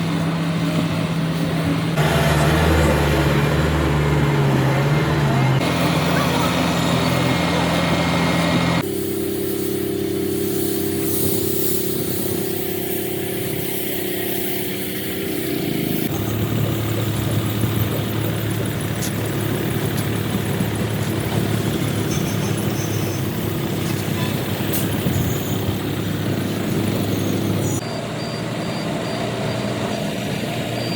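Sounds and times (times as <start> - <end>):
heavy machinery engines humming: 0.0 - 30.9.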